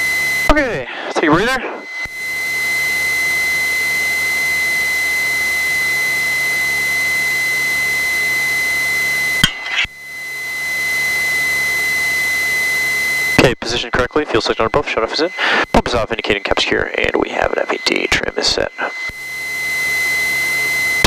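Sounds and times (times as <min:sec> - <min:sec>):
aircraft engine idling: 0:00.0 - 0:21.0
high-pitched whine: 0:00.0 - 0:21.0.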